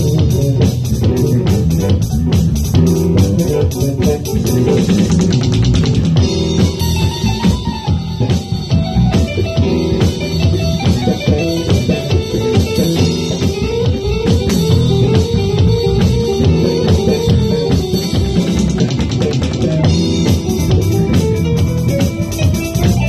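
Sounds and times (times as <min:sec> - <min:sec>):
electronic drum kit groove: 0:00.0 - 0:23.0
guitar: 0:00.0 - 0:23.0.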